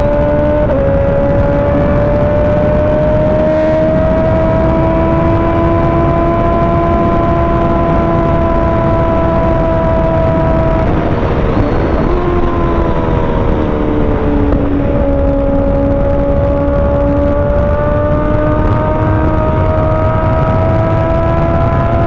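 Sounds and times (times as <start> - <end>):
motorcycle engine running: 0.0 - 22.0
rushing wind noise: 0.0 - 22.0.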